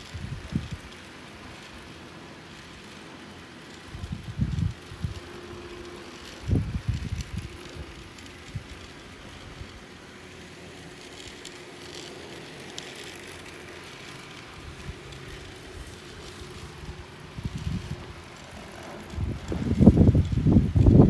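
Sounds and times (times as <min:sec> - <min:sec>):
toy train motor hum: 0:00.0 - 0:21.0.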